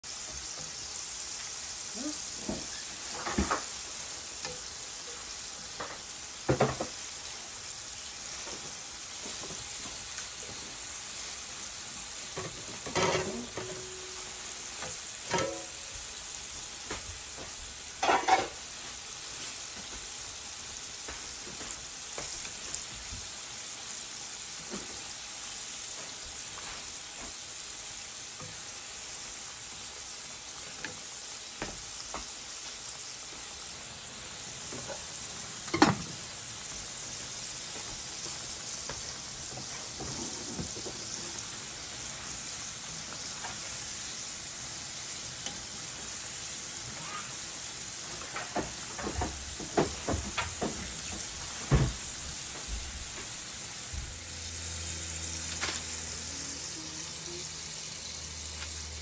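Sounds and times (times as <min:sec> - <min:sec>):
shrimp frying in hot oil: 0:00.0 - 0:59.0.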